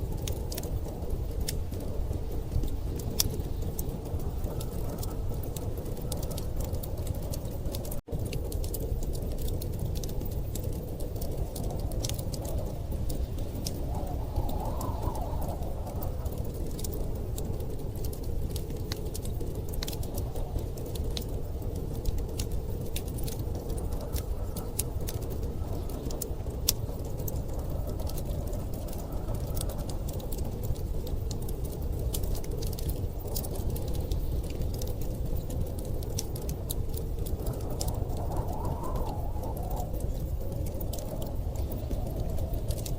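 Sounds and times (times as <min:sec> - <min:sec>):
low rumble of blizzard wind: 0:00.0 - 0:42.9
wood fire crackling and popping: 0:00.0 - 0:42.9.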